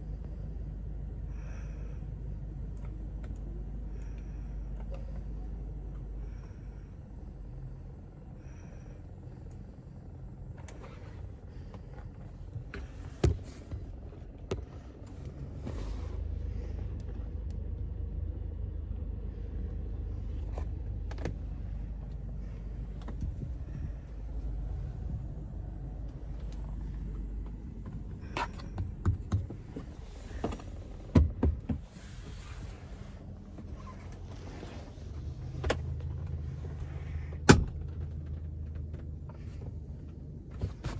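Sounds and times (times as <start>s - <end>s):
car interior low hum: 0.0s - 40.9s.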